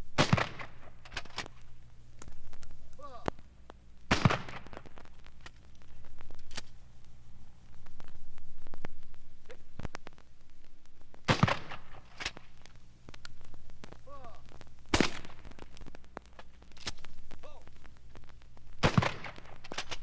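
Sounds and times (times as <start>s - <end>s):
sharp cracks: 0.0s - 20.0s
steady low hum: 0.0s - 20.0s.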